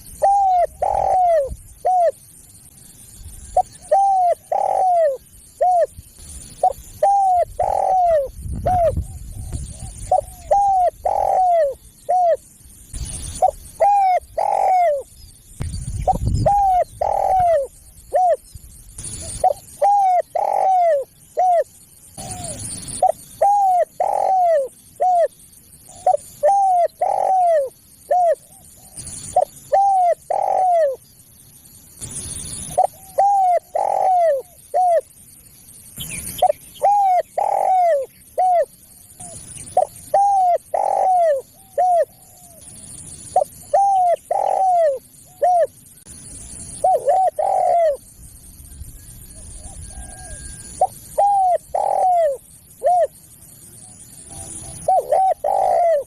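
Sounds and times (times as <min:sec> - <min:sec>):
dove cooing: 0:00.0 - 0:15.1, 0:16.0 - 0:31.0, 0:32.4 - 0:35.1, 0:36.3 - 0:45.8, 0:46.7 - 0:48.1, 0:49.2 - 0:56.0.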